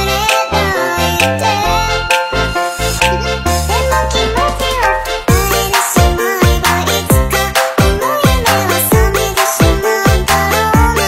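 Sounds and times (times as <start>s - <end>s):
background music with bass and bending melody: 0.0s - 11.0s.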